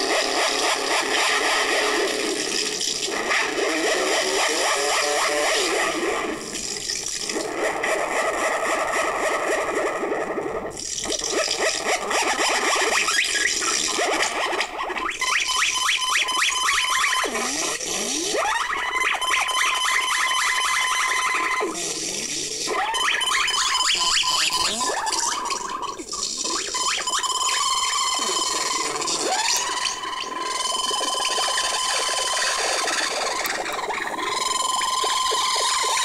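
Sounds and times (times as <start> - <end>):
glitchy modular synthesizer drone: 0.0 - 36.0.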